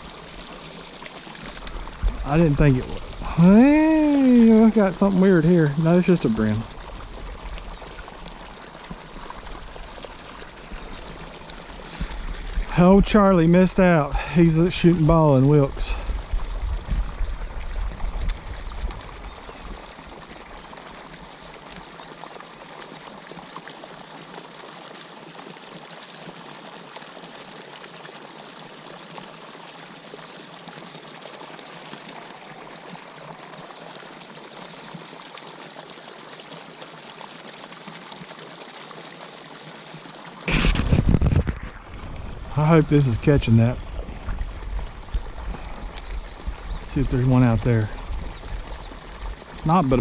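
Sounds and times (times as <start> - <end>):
water pouring into pond: 0.0 - 50.0.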